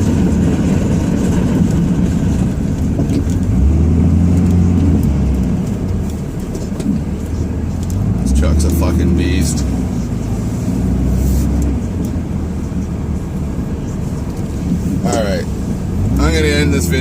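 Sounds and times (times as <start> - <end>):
diesel engine droning under load: 0.0 - 17.0.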